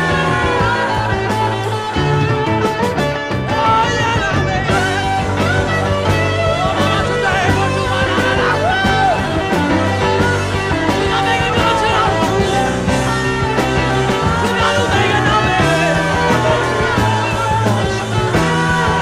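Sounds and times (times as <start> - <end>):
bass and drums: 0.0 - 19.0
psychedelic rock band jam: 0.0 - 19.0
sliding lead guitar lines: 0.0 - 19.0.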